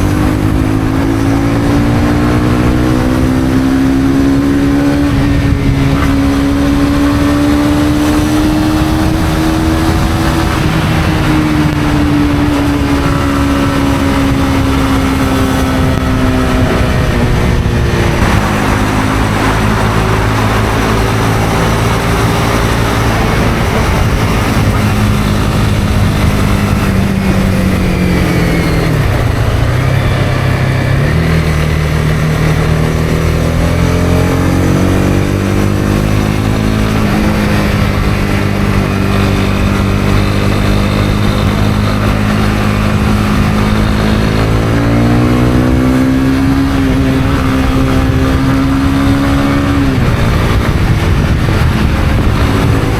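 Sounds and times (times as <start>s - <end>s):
motorcycle engine: 0.0s - 52.9s
wind and road noise: 0.0s - 52.9s.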